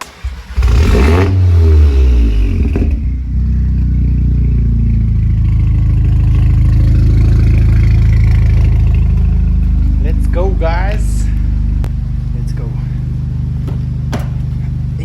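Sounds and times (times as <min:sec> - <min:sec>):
car engine revving then idling: 0:00.0 - 0:15.0.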